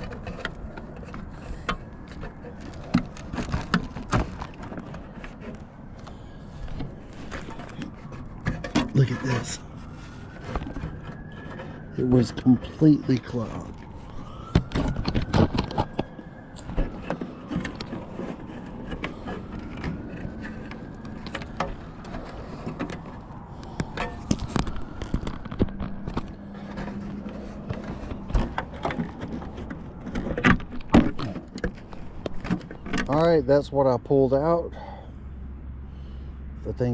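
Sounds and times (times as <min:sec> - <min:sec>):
tools knocking and scraping: 0:00.0 - 0:33.2.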